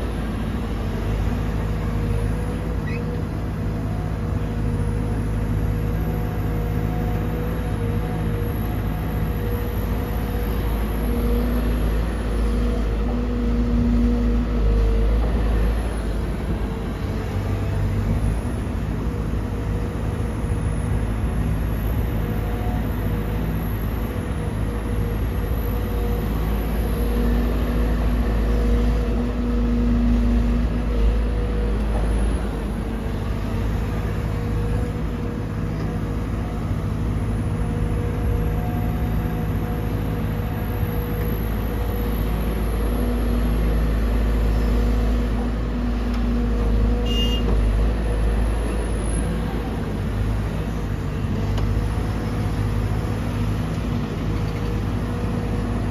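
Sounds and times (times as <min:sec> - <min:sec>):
excavator diesel engine droning: 0:00.0 - 0:55.9.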